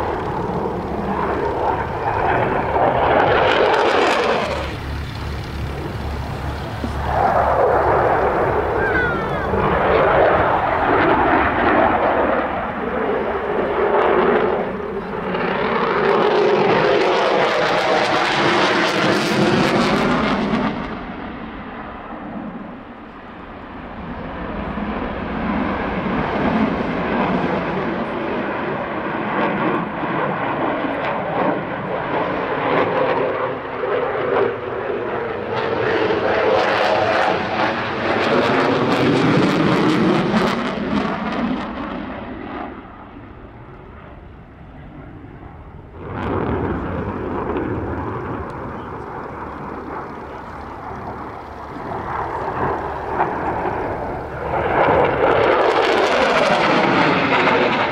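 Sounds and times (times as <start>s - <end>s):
jet engine roar overhead: 0.0s - 57.9s.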